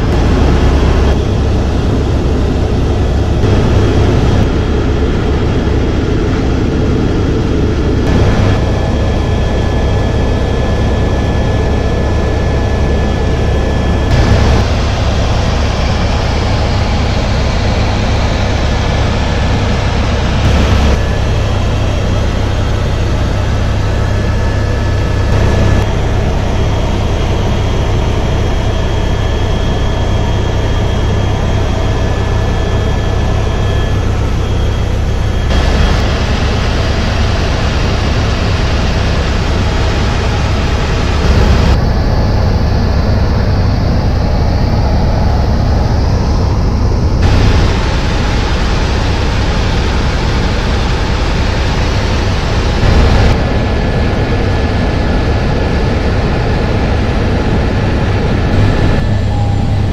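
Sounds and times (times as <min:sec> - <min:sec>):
helicopter rotor and engine noise: 0:00.0 - 0:59.9.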